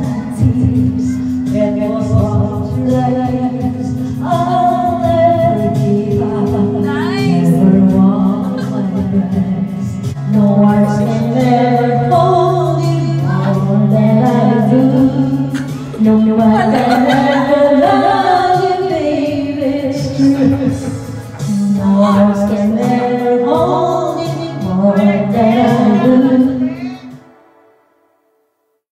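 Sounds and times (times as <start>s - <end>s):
woman singing slow song: 0.0s - 27.2s
karaoke backing track: 0.0s - 27.9s.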